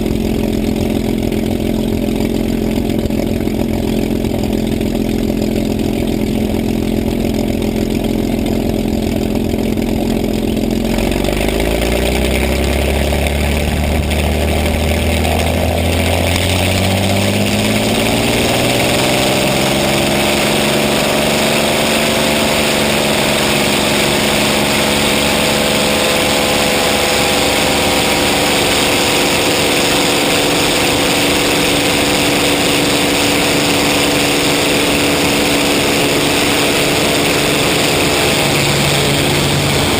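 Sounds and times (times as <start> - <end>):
propeller aircraft engine running: 0.0 - 39.9.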